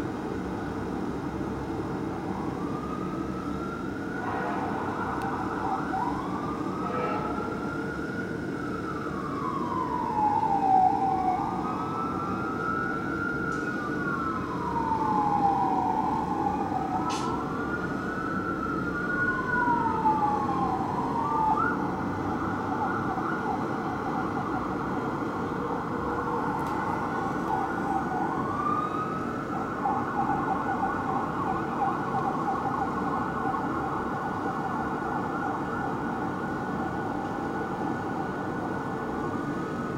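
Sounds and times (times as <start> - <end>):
engine and street rumble: 0.0 - 39.9.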